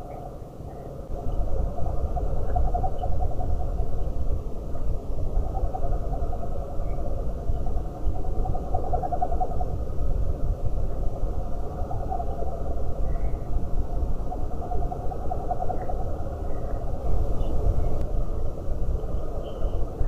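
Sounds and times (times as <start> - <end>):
steady low rumble: 0.9 - 20.0.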